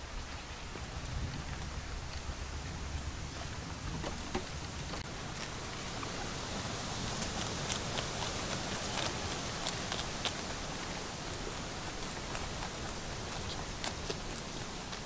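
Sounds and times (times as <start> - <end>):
rabbits crunching cabbage: 0.9 - 15.0.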